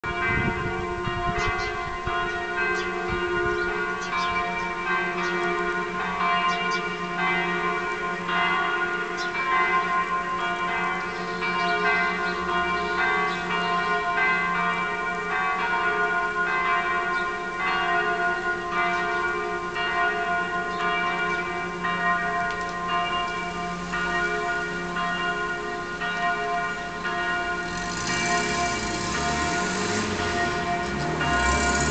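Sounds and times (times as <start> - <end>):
church bells pealing: 0.0 - 31.9.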